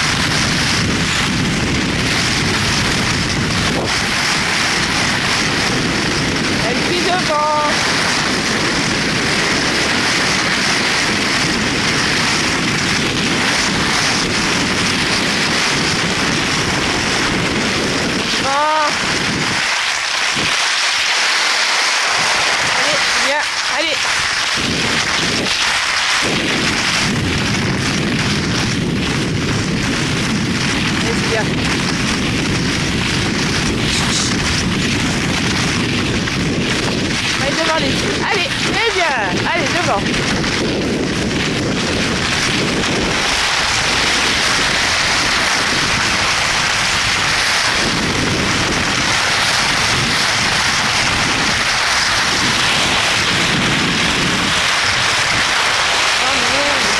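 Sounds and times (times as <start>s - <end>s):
skis gliding on snow: 0.0s - 56.9s
wind buffeting microphone: 0.0s - 56.9s.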